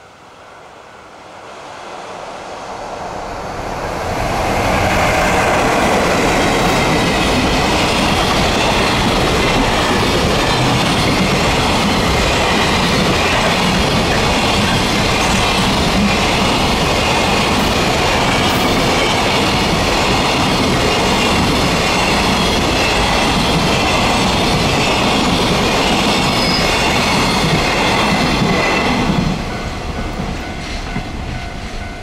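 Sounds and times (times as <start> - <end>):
freight train wheels on track: 0.0 - 32.0.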